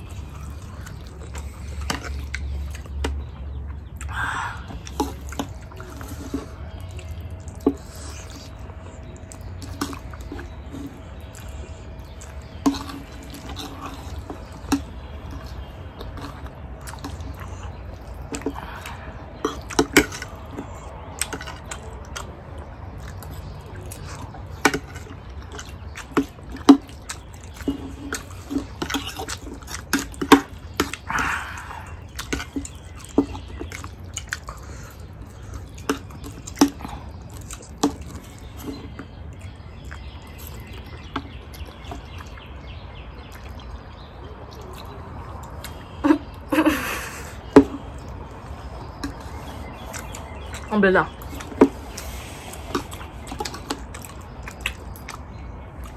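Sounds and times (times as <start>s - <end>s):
wet slurping and chewing: 0.0s - 55.9s.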